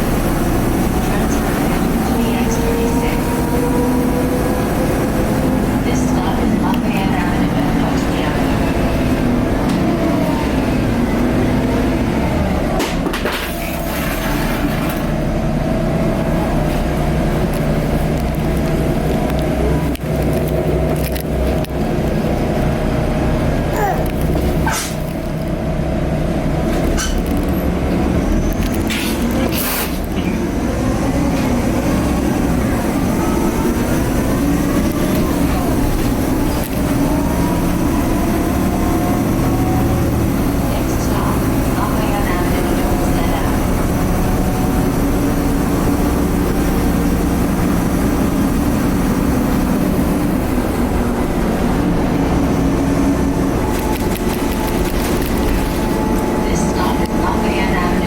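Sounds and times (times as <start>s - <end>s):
bus diesel engine with turbo whine: 0.0s - 58.0s
road noise: 0.0s - 58.0s.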